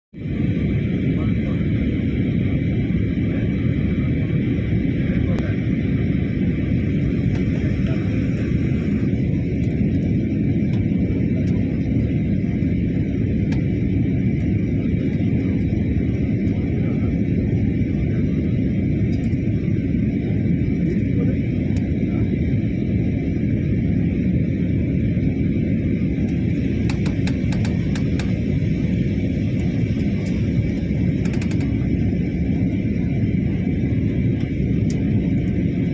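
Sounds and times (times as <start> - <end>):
airliner cabin rumble: 0.1 - 35.9
faint high whine: 0.2 - 35.9.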